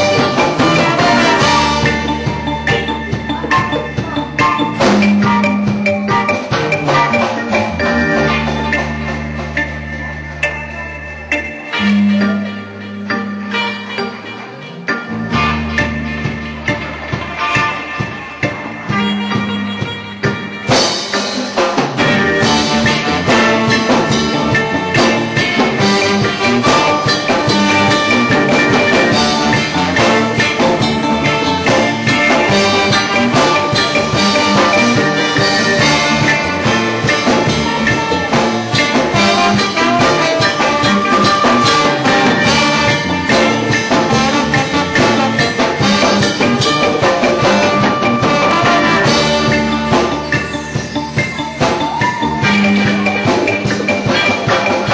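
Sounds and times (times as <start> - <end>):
live reggae band playing: 0.0 - 54.9.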